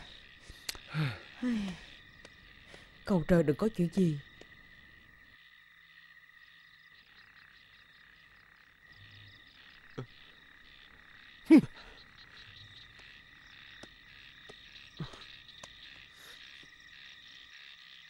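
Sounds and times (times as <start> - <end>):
frogs trilling: 0.0 - 18.0.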